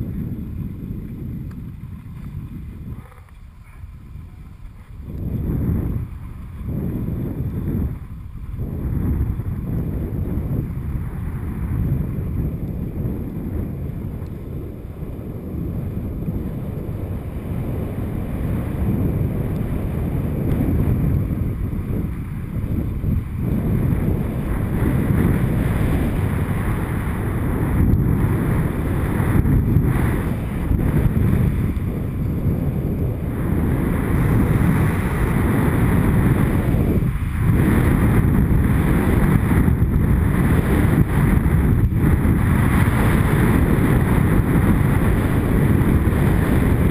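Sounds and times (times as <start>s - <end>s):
skis running on snow: 0.0s - 46.9s
wind rumbling on microphone: 0.0s - 46.9s.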